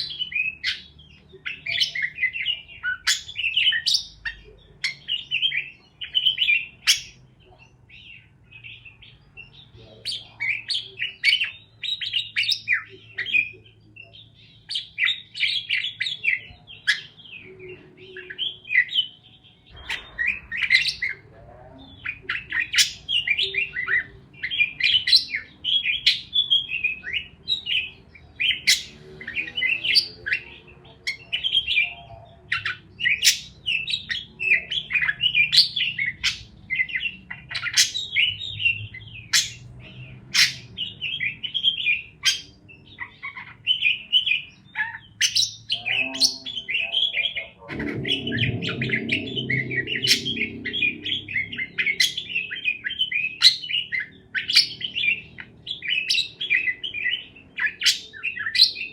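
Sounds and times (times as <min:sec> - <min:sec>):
parakeets chirping and squawking: 0:00.0 - 0:58.9.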